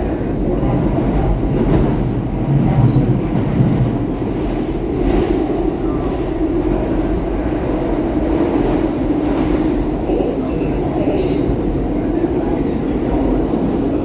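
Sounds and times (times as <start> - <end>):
subway car rumbling in tunnel: 0.0 - 14.0.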